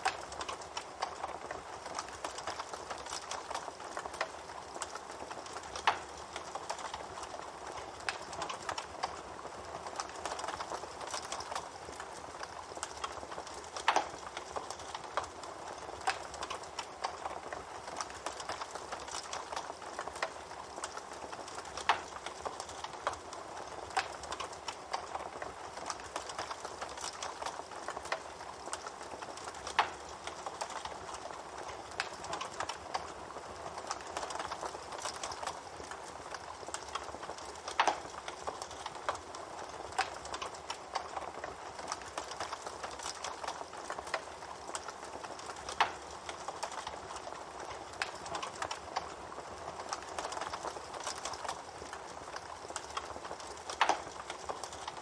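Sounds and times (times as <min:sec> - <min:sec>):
fire pops: 0:00.0 - 0:09.2, 0:09.8 - 0:55.0
bonfire crackling: 0:00.0 - 0:55.0.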